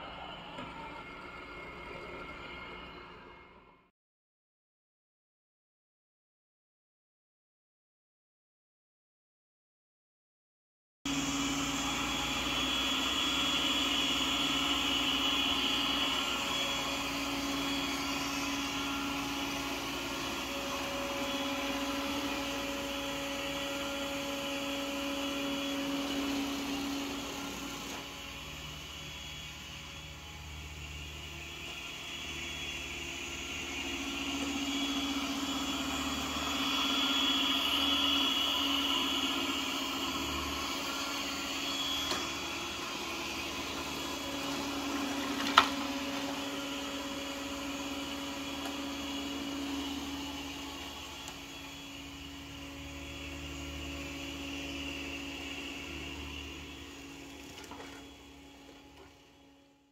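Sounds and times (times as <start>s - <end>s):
robot vacuum humming: 0.0s - 3.9s, 11.1s - 59.9s.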